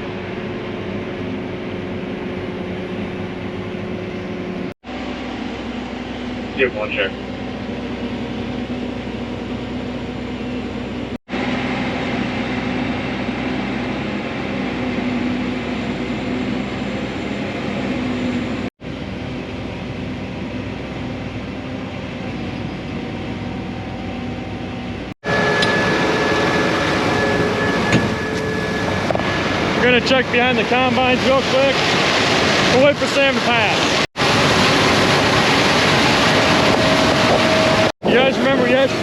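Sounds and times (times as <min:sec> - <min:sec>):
harvest machinery engine and fan drone: 0:00.0 - 0:39.0
high whine: 0:00.0 - 0:39.0.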